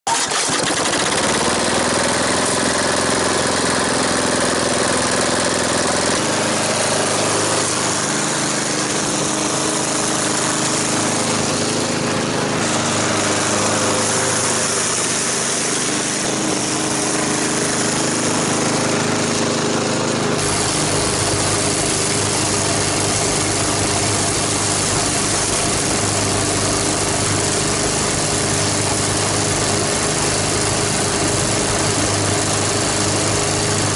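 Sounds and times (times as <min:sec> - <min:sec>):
lawn mower engine running: 0:00.1 - 0:33.9.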